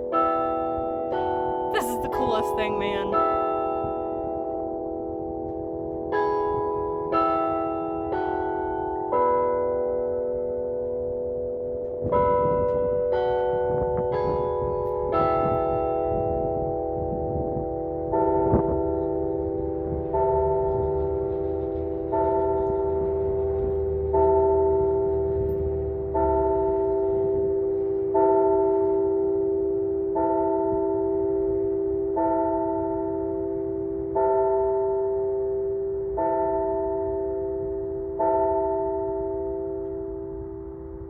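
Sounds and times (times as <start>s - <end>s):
tower bell tolling: 0.0s - 41.0s.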